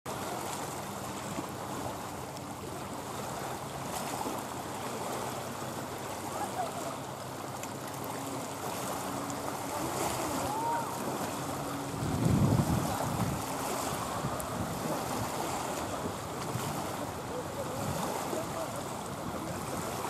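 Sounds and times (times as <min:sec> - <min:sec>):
wind: 0:00.0 - 0:20.0
lapping water: 0:00.1 - 0:20.0.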